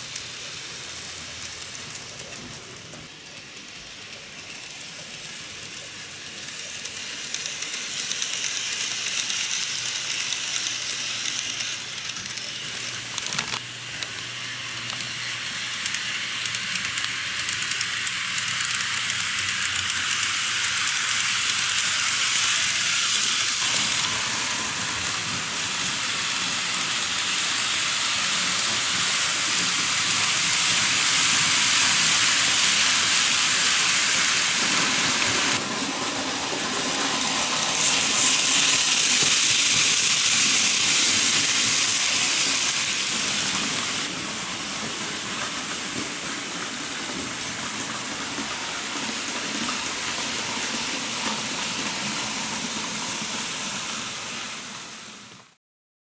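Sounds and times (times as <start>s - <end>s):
model trains whirring on rails: 0.0s - 55.6s.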